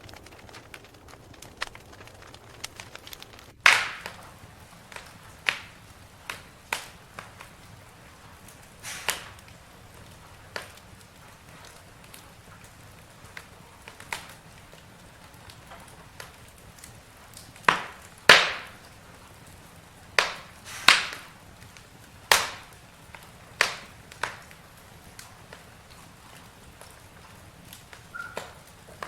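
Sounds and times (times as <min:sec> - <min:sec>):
campfire crackling pops: 0:00.0 - 0:29.0
fire hissing: 0:00.0 - 0:29.0.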